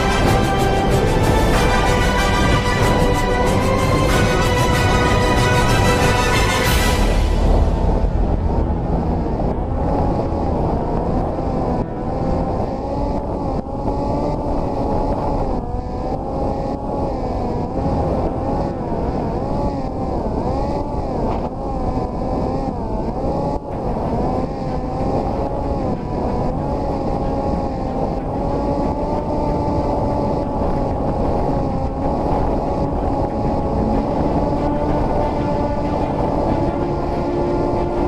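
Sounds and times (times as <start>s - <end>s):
electric motor and propeller whining: 0.0s - 38.0s
wind rush on microphone: 0.0s - 38.0s.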